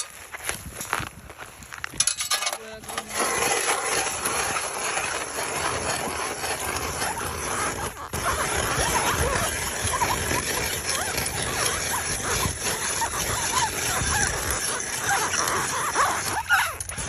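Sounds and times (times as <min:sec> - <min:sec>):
drill grinding into ice: 0:00.0 - 0:00.4, 0:01.7 - 0:17.0.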